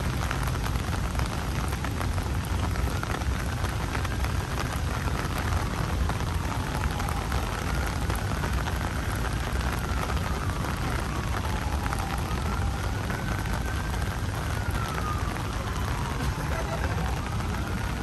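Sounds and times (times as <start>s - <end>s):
rain on wet pavement: 0.0s - 18.0s.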